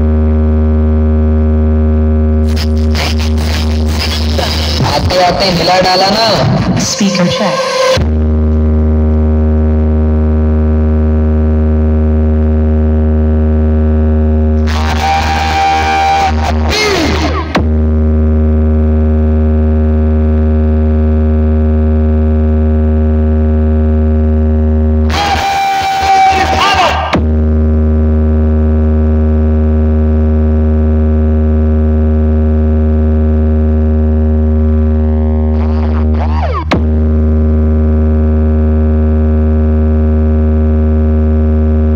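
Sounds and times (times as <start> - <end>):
low bass drone: 0.0 - 25.9, 27.0 - 41.9.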